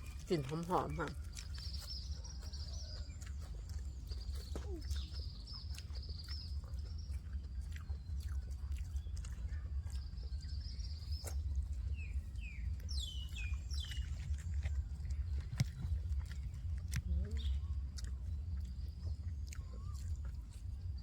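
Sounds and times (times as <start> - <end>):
small birds singing: 0.0 - 21.0
soft eating clicks: 0.0 - 21.0
steady low rumble: 0.0 - 21.0.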